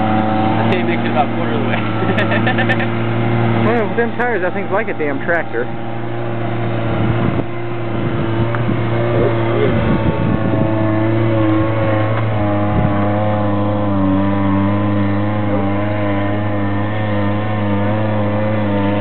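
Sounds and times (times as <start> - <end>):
truck engine running at low speed: 0.0 - 19.0.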